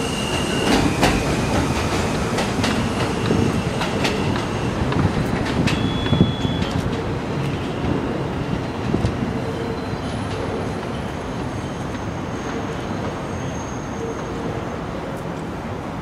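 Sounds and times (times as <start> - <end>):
city traffic noise: 0.0 - 16.0
subway train rumbling: 0.0 - 16.0.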